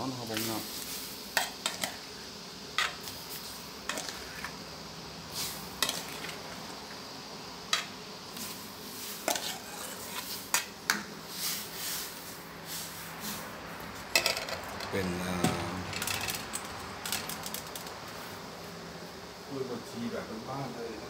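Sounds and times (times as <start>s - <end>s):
boiling syrup hiss: 0.0s - 21.0s.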